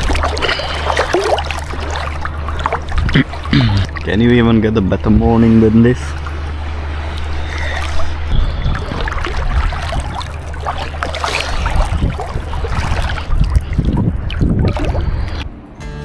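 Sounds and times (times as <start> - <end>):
water sloshing and splashing: 0.0 - 15.5
wind rumble on microphone: 0.0 - 15.6.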